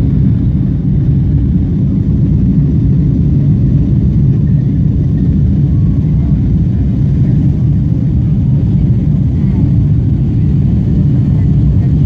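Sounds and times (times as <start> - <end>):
jet engines and airflow in cabin: 0.0 - 12.0.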